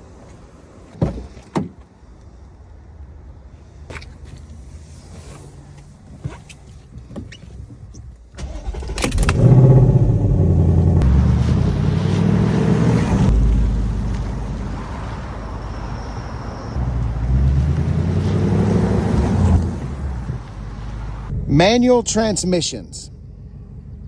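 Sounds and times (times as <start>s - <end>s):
car engine starting and idling: 3.9s - 24.0s.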